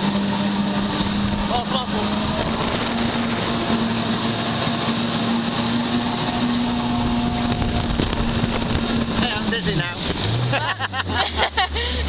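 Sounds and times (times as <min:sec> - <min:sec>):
jet ski engine drone: 0:00.0 - 0:12.0
water rushing against hull: 0:00.0 - 0:12.0.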